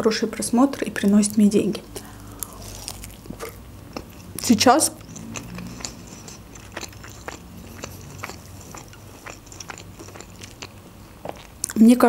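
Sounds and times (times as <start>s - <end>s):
chewing food: 1.9s - 12.0s
wet mouth clicks: 2.0s - 11.8s.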